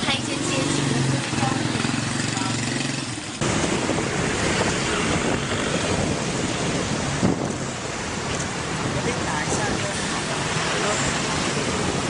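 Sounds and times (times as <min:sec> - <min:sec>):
loud steady rushing noise: 0:00.0 - 0:12.0.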